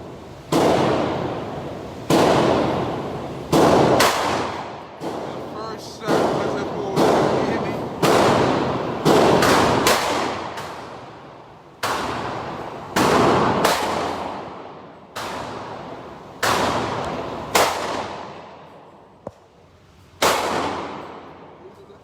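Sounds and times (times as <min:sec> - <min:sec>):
gunshots with echo: 0:00.1 - 0:19.2, 0:20.2 - 0:21.8.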